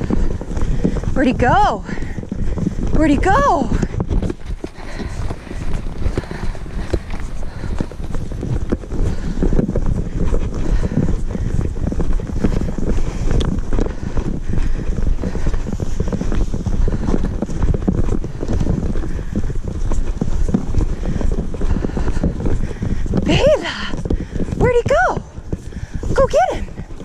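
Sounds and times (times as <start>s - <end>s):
wind buffeting microphone: 0.0s - 27.0s
footsteps in dry grass: 2.0s - 27.0s.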